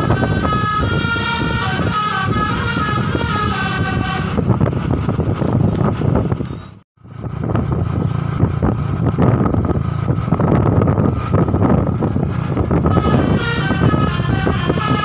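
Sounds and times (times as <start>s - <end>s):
bus engine running: 0.0s - 15.0s
wind buffeting microphone: 0.0s - 15.0s.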